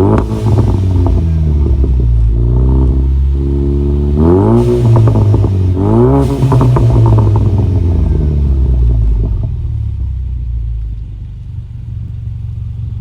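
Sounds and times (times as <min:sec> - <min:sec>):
car engine revving: 0:00.0 - 0:10.8
car engine idling: 0:00.0 - 0:13.0
exhaust crackles: 0:00.0 - 0:13.0.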